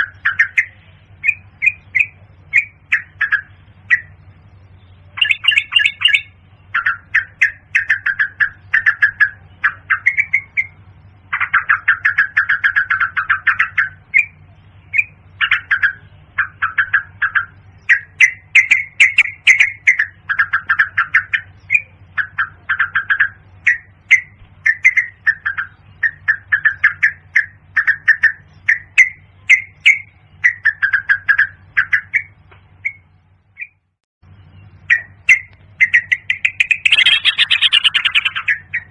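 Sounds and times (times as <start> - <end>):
steady low hum: 0.0 - 38.9
bird calling rapid short notes: 5.0 - 33.8, 34.8 - 38.9.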